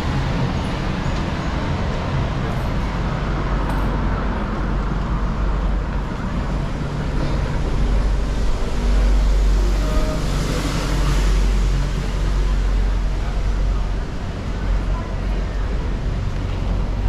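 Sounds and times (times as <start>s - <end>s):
deep traffic rumble: 0.0s - 17.0s
passing cars: 0.0s - 17.0s.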